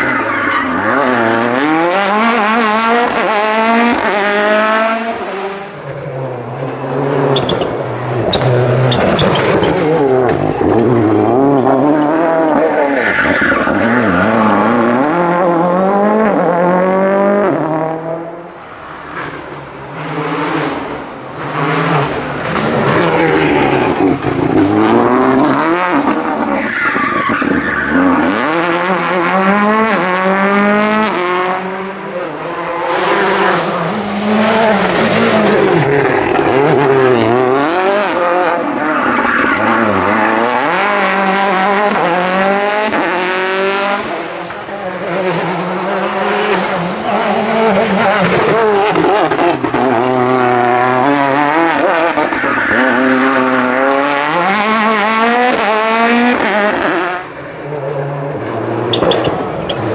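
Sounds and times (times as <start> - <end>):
tyres skidding: 0.0 - 16.8, 18.7 - 59.9
rally car engines revving: 0.0 - 59.9.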